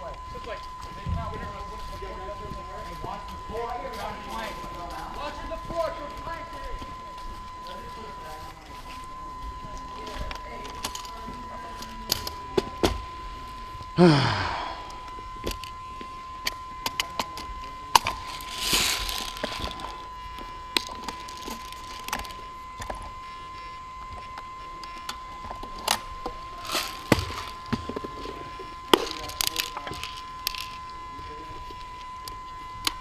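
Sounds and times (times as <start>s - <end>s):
faint high whine: 0.0s - 33.0s.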